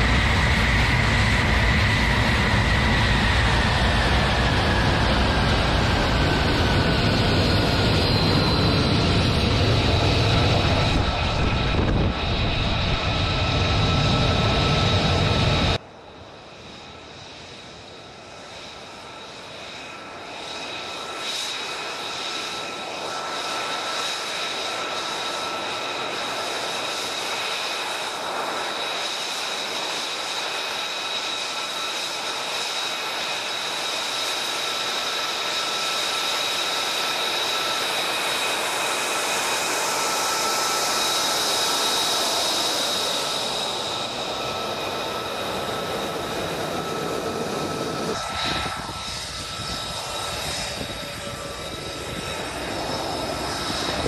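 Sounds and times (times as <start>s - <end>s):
rushing jet noise: 0.0s - 15.8s, 19.3s - 54.0s
jet engine whine: 0.0s - 54.0s.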